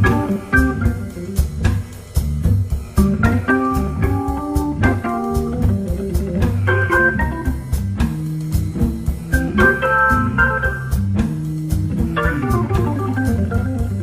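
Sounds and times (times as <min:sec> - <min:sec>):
drums keeping time: 0:00.0 - 0:14.0
organ playing blues: 0:00.0 - 0:14.0.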